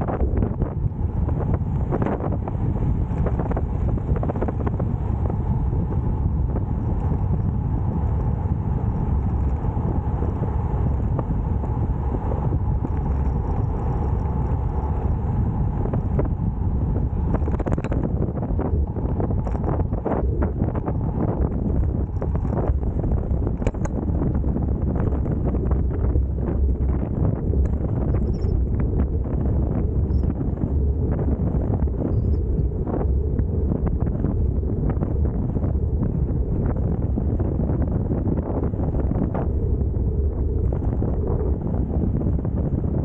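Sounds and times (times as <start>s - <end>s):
wind rushing over microphone: 0.0s - 43.0s.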